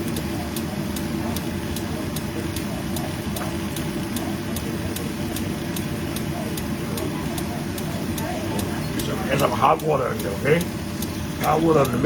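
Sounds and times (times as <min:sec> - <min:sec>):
faint regular ticking: 0:00.0 - 0:12.0
stove low rumble: 0:00.0 - 0:12.0.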